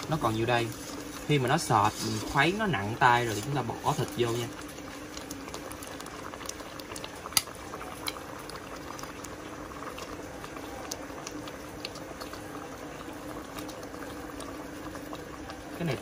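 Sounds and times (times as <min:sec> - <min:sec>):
sauce bubbling and popping: 0:00.0 - 0:16.0.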